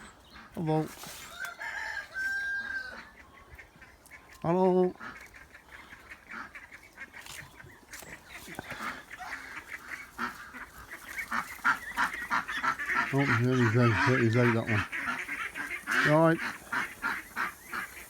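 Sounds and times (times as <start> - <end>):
flock of birds calling: 0.0 - 18.0.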